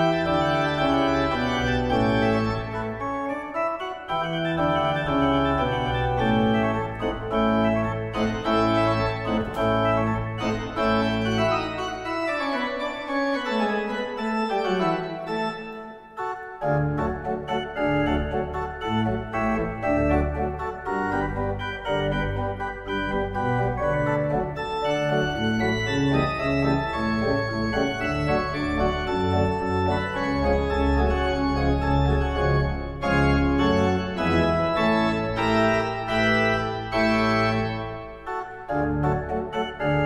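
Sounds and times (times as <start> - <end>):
pipe organ chords: 0.0 - 40.0.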